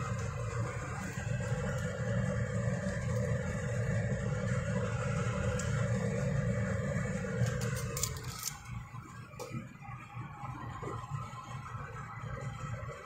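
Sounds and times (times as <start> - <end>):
water boiling in a saucepan: 0.0 - 13.0.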